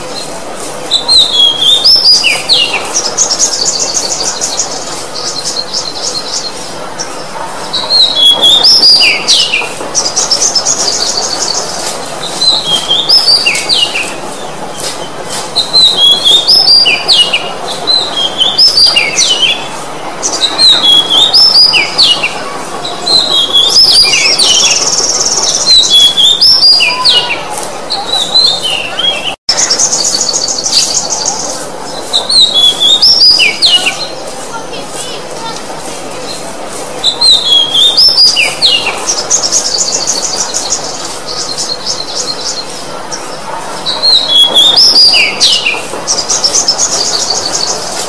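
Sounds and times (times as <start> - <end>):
bird singing whistled notes: 0.9 - 6.6, 7.7 - 14.2, 15.6 - 19.6, 20.2 - 22.3, 23.1 - 34.1, 37.0 - 42.7, 43.9 - 47.8.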